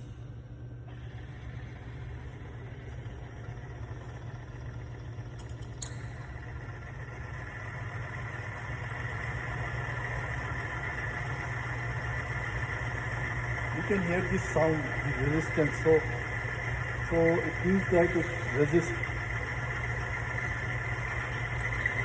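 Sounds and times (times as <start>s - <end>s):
motor hum: 0.0s - 22.0s.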